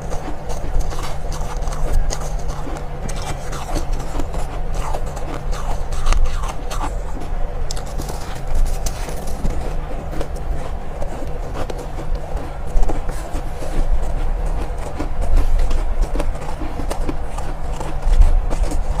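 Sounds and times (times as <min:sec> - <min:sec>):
chewing crunchy ice: 0:00.0 - 0:19.0
steady low rumble: 0:00.0 - 0:19.0.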